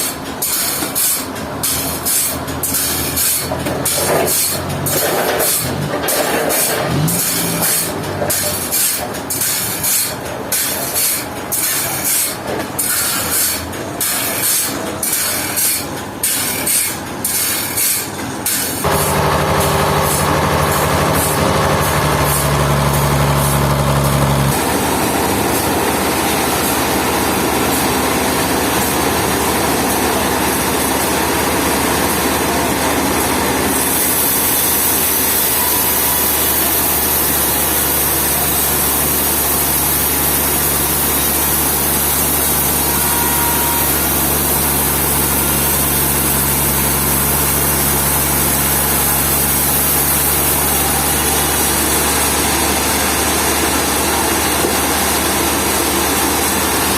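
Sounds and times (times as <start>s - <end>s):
engine running: 0.0s - 12.9s, 18.2s - 56.9s.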